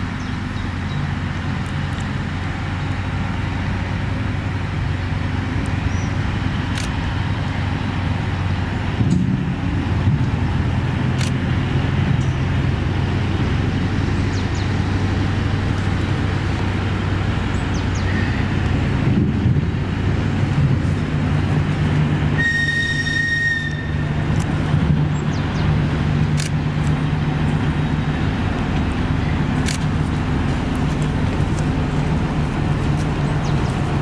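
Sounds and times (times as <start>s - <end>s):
locomotive diesel engine drone: 0.0s - 34.0s.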